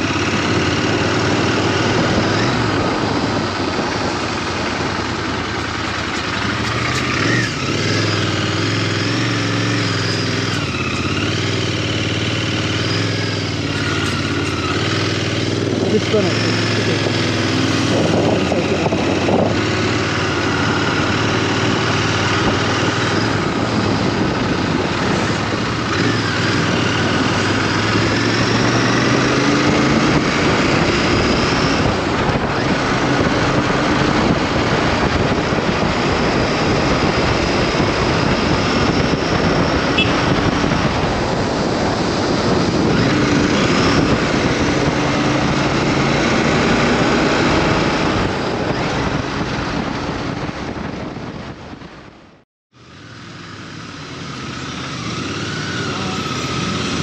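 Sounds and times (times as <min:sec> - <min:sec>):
wind noise: 0:00.0 - 0:52.4
motorcycle engine running: 0:00.0 - 0:57.0.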